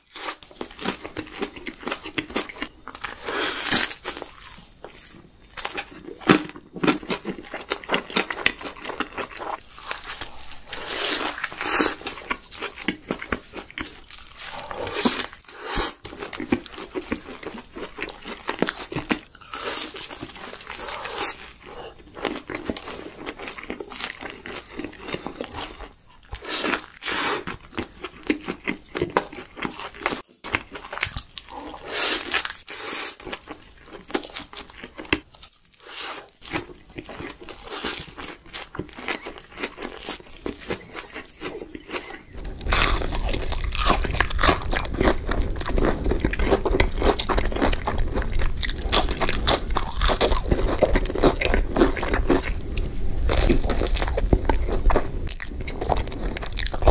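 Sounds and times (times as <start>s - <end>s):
crunchy bites and wet chewing: 0.0s - 56.9s
person chewing: 0.0s - 56.9s.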